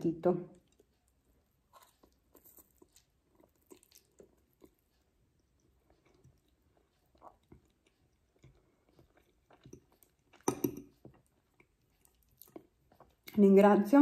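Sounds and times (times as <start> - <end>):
chewing spaghetti: 0.6 - 13.5.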